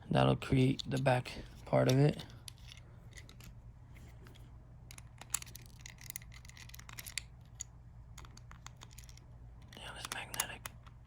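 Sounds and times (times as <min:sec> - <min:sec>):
faint low hum: 0:00.0 - 0:11.0
clicks and scrapes of plastic parts: 0:00.6 - 0:11.0.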